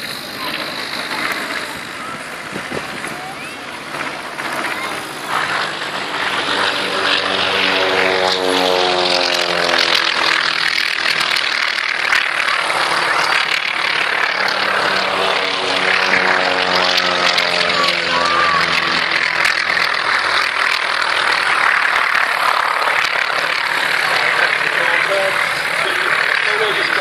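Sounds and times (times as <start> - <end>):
propeller aircraft passing: 0.0 - 27.0.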